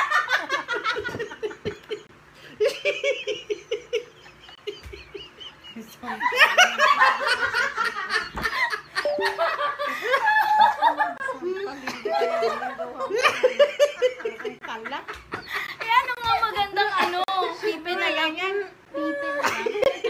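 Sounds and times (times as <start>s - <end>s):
people laughing: 0.0s - 17.8s, 19.0s - 20.0s.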